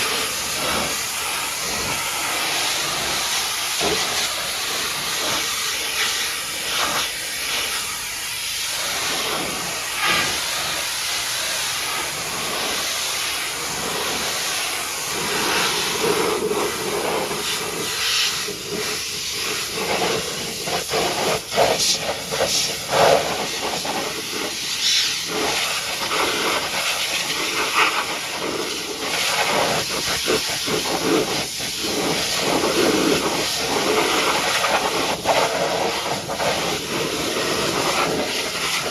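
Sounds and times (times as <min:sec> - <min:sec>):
high-pressure water jet spraying: 0:00.0 - 0:38.9.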